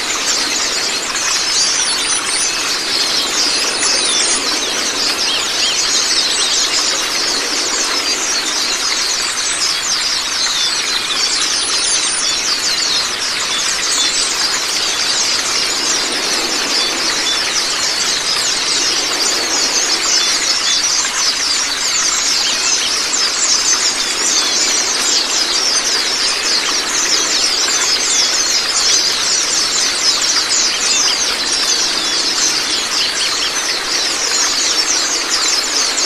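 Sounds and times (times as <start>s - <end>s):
birds chirping and trilling: 0.0s - 36.0s
running water hiss: 0.0s - 36.0s.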